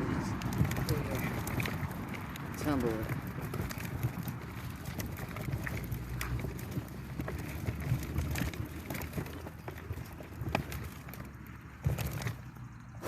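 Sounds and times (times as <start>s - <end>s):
compost tumbler drum clunking: 0.0s - 13.0s.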